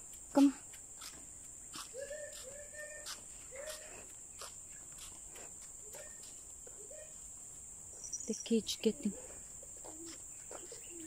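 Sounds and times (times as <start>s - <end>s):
crickets chirring: 0.0s - 11.0s
faint footsteps: 0.0s - 11.0s.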